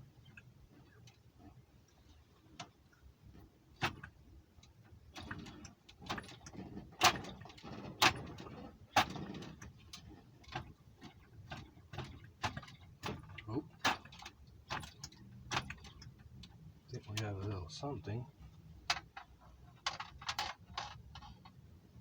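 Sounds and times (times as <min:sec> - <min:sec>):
model engine clicks and knocking: 0:02.6 - 0:17.6, 0:18.8 - 0:21.7.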